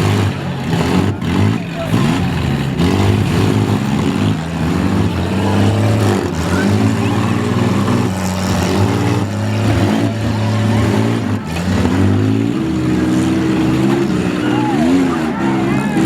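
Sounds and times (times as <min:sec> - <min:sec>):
several car engines revving: 0:00.0 - 0:16.0.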